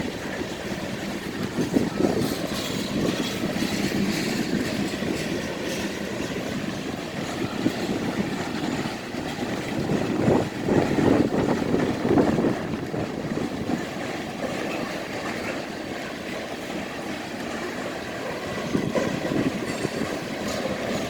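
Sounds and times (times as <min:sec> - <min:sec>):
train wheels clattering on rails: 0:00.0 - 0:21.0.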